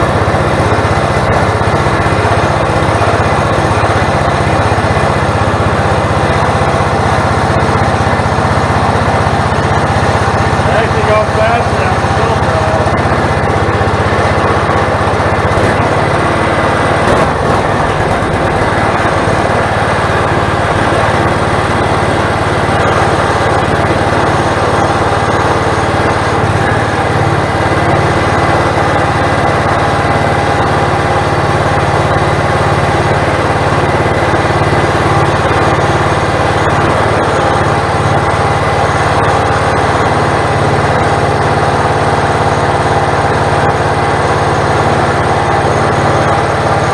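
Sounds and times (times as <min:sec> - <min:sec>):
small engine running: 0:00.0 - 0:46.9.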